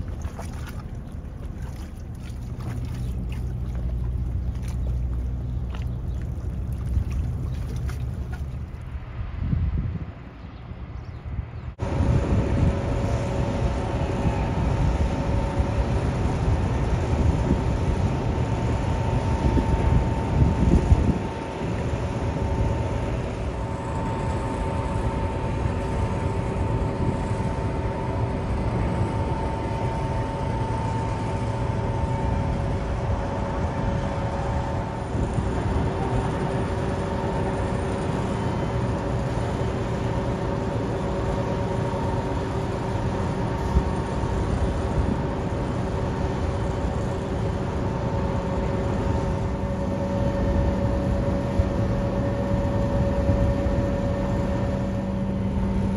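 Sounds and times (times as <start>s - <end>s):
faint humming tones: 0.0s - 55.9s
steady mechanical rumble: 0.0s - 55.9s.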